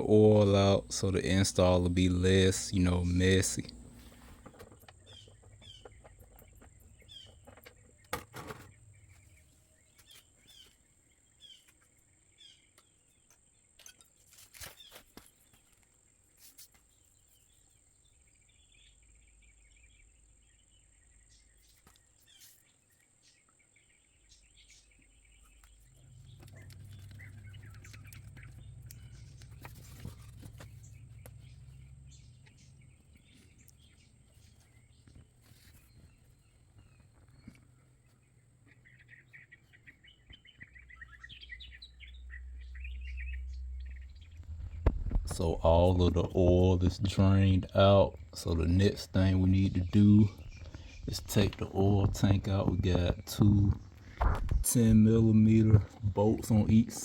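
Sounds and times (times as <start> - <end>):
low steady hum: 0.0 - 22.1, 23.1 - 57.0
faint bird chirping: 0.0 - 57.0.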